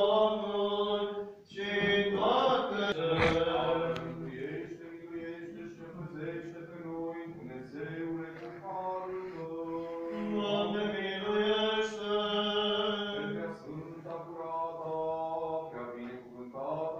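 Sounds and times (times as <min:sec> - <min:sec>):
liturgical chant singing: 0:00.0 - 0:16.9.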